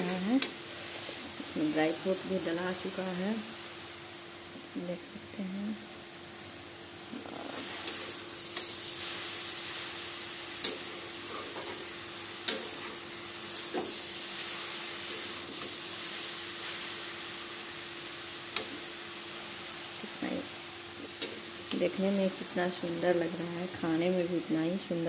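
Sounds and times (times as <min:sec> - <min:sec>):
carrots sizzling in a pan: 0:00.0 - 0:25.0.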